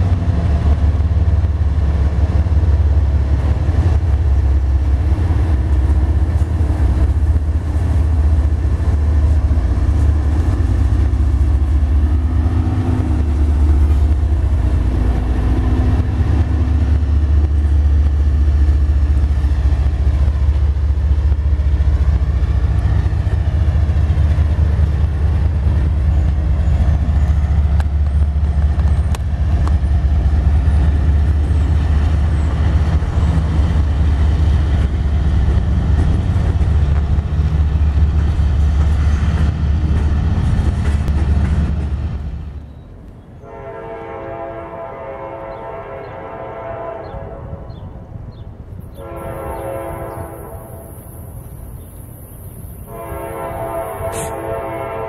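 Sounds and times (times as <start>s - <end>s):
locomotive engine rumble: 0.0s - 55.0s
train cars rolling: 0.0s - 55.0s.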